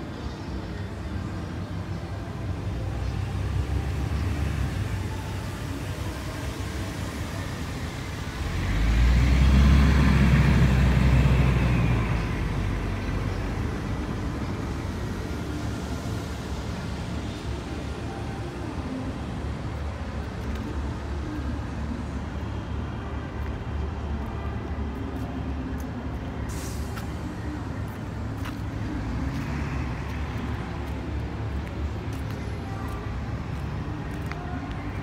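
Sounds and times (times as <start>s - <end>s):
city traffic rumble: 0.0s - 35.0s.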